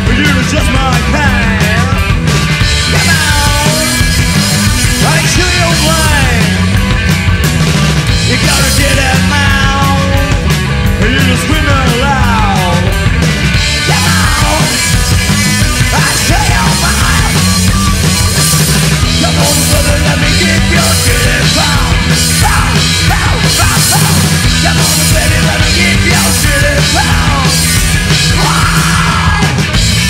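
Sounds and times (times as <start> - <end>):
punk band playing live: 0.0 - 30.0.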